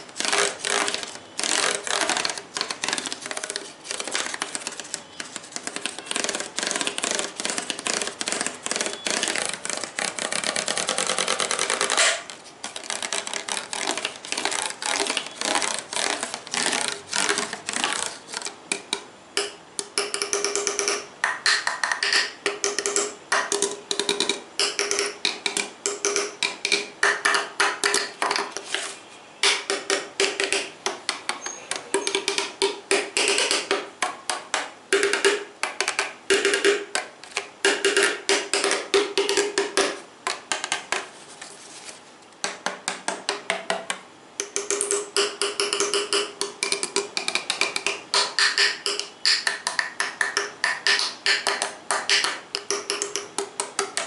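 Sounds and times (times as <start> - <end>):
rapid tapping on hard objects: 0.0 - 41.1, 42.4 - 54.0.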